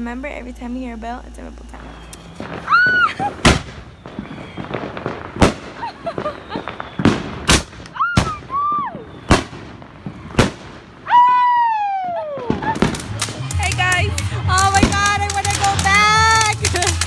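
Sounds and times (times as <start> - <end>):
rising and falling whistling tones: 1.5 - 16.2
firecracker bangs: 1.8 - 17.0.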